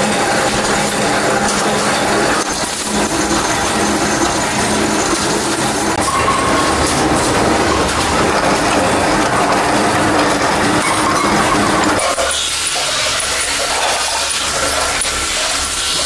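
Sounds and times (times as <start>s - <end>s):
power press mechanical clatter: 0.0s - 16.0s.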